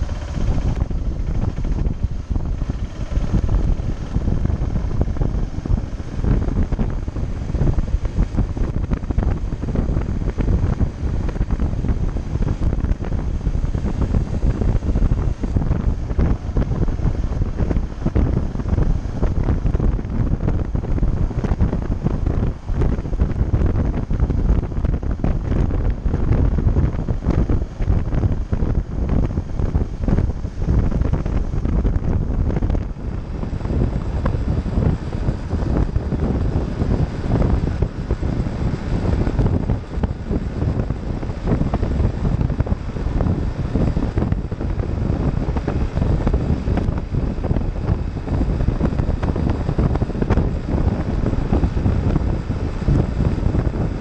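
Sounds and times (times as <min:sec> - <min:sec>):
motorcycle engine: 0:00.0 - 0:47.7
road noise: 0:00.0 - 0:54.0
wind buffeting microphone: 0:00.0 - 0:54.0.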